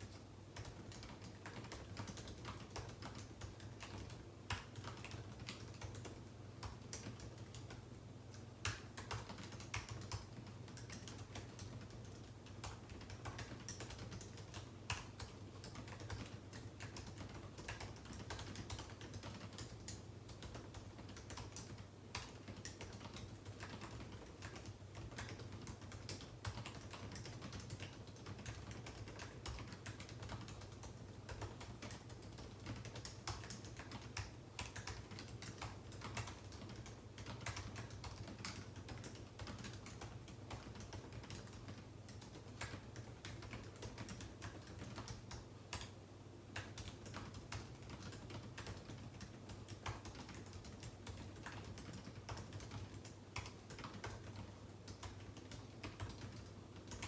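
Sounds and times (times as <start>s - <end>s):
computer keyboard key clicks: 0.0s - 46.0s, 46.6s - 57.0s.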